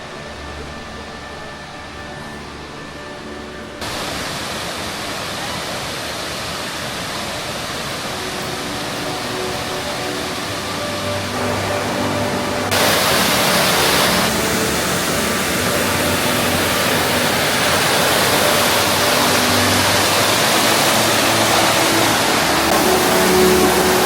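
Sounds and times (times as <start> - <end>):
waterfall rushing: 3.8 - 24.0.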